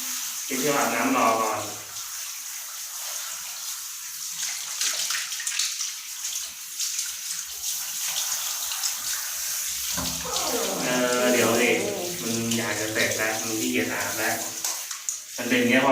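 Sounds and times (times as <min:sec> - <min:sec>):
running water splashing: 0:00.0 - 0:15.9.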